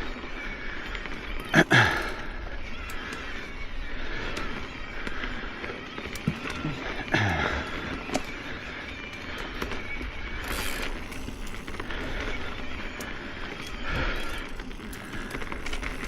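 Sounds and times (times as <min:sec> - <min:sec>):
bike rattles and clicks: 0:00.0 - 0:16.0
bike tyres on dirt trail: 0:00.0 - 0:16.0
loud bike jolts: 0:00.6 - 0:16.0.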